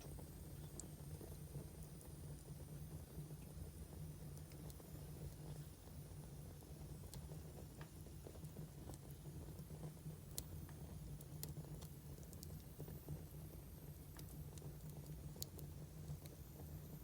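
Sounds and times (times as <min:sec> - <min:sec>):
firewood crackling and popping: 0:00.0 - 0:02.6, 0:04.0 - 0:16.7.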